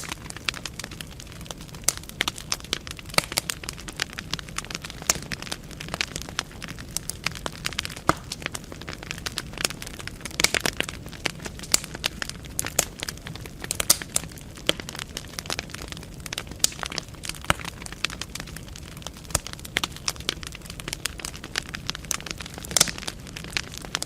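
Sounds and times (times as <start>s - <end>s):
logs crackling and popping: 0.0s - 24.0s
low steady fire hiss: 0.0s - 24.0s.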